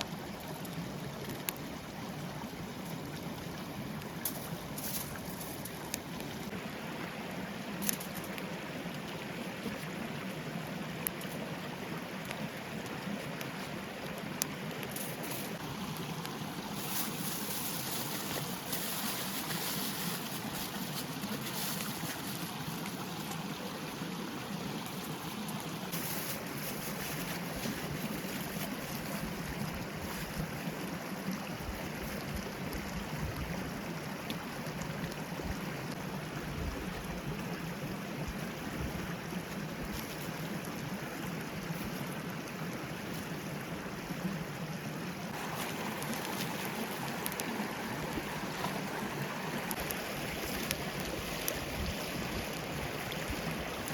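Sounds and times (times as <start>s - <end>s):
forest stream flowing water: 0.0s - 53.9s.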